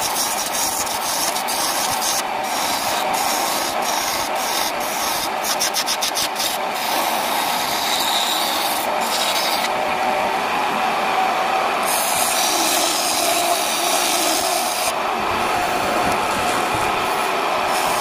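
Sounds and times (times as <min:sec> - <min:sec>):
wood lathe tool scraping: 0:00.0 - 0:09.8, 0:11.8 - 0:18.0.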